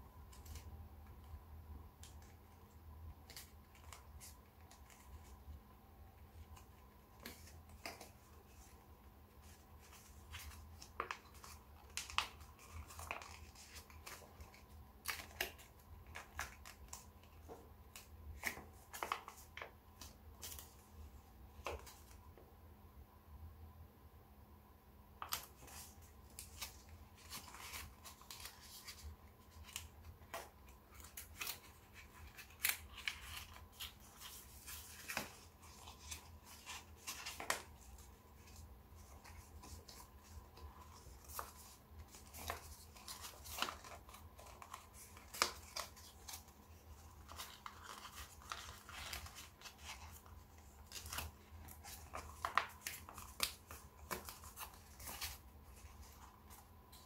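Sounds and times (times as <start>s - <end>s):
paper crinkling and creasing: 2.0s - 22.3s, 25.2s - 57.0s
paper rustling: 6.2s - 22.2s, 25.2s - 57.0s.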